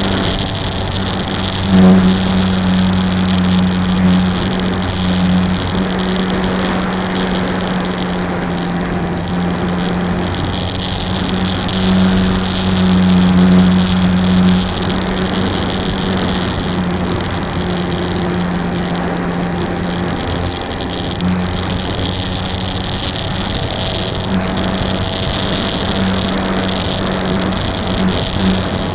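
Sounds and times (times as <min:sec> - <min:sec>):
electric motor and propeller droning: 0:00.0 - 0:28.9
rushing air: 0:00.0 - 0:28.9.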